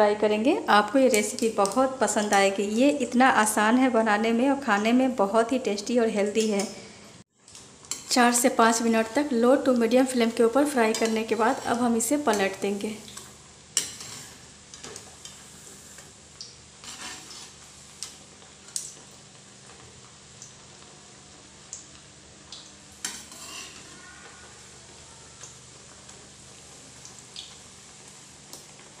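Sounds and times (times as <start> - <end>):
dough deep-frying in oil: 0.0 - 29.0.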